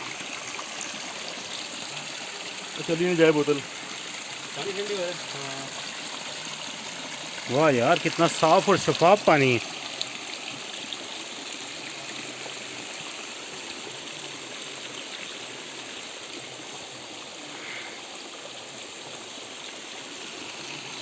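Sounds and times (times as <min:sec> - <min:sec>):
spring water running: 0:00.0 - 0:21.0.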